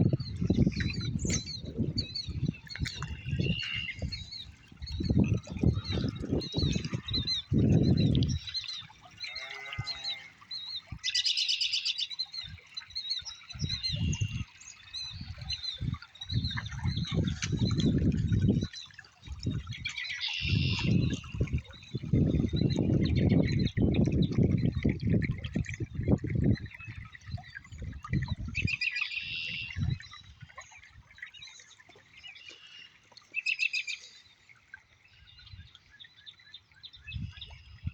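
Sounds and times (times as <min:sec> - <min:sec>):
small songbirds chirping: 0:00.0 - 0:24.9, 0:26.0 - 0:37.9.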